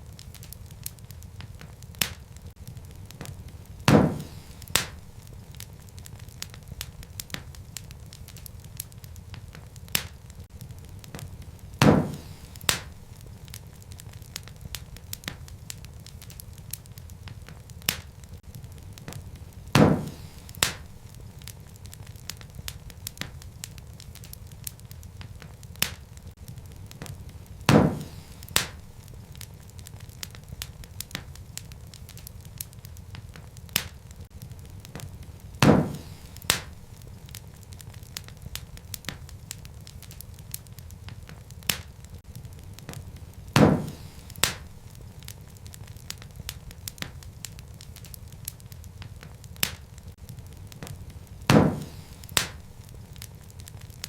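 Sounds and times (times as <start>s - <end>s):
fire crackling: 0.0s - 54.0s
loud fire pops: 0.0s - 54.0s
low rumble of flames: 0.0s - 54.0s.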